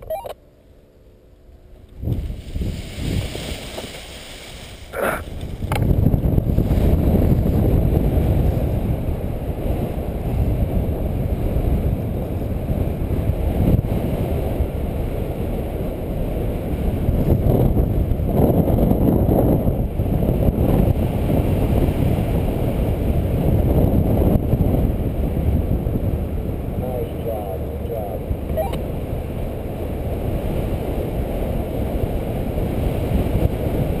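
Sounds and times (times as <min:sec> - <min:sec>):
wind rushing over microphone: 0:01.9 - 0:34.0.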